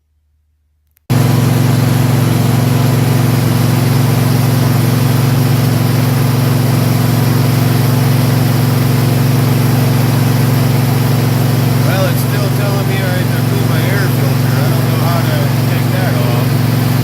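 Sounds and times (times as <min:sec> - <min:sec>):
riding lawn mower engine running: 0:01.1 - 0:17.0.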